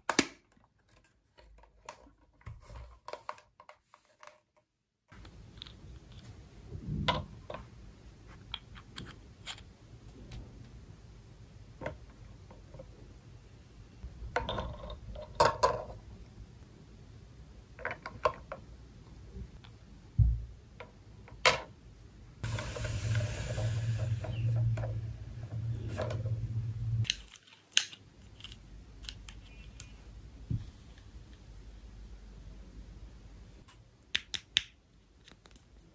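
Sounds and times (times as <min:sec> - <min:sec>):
steady hiss with low hum: 0:05.1 - 0:35.9.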